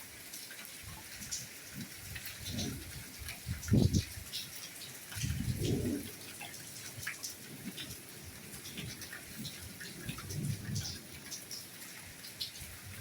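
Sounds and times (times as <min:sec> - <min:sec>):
rain hissing: 0:00.0 - 0:13.0
raindrops tapping: 0:00.0 - 0:13.0.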